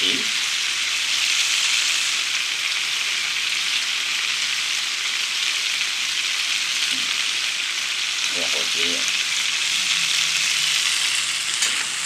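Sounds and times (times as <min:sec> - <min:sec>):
meat frying in oil: 0:00.0 - 0:12.0.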